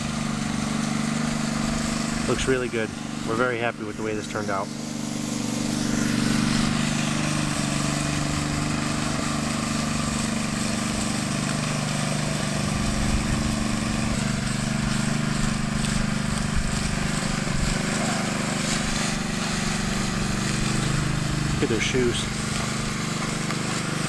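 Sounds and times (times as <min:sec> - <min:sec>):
power trowel engine running: 0:00.0 - 0:24.0.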